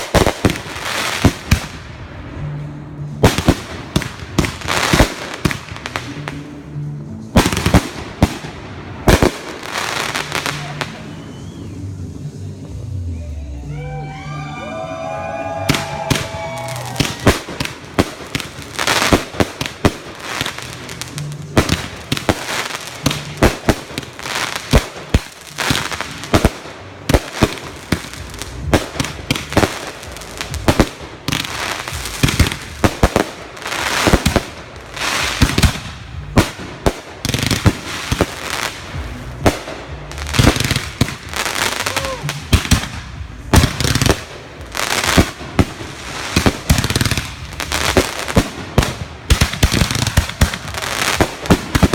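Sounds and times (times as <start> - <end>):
fireworks bangs and crackling: 0.0 - 12.9, 15.6 - 51.9.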